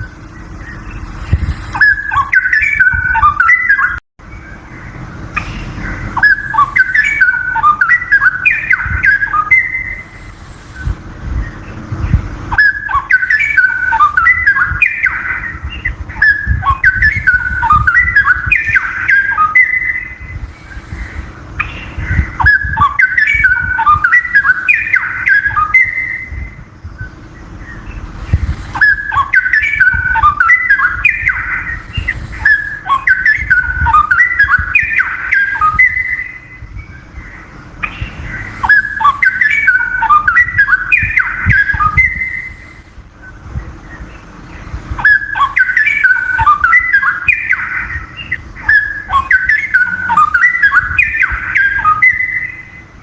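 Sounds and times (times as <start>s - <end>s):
bird singing whistled notes: 0.0s - 53.0s
faint steady hum: 0.0s - 53.0s.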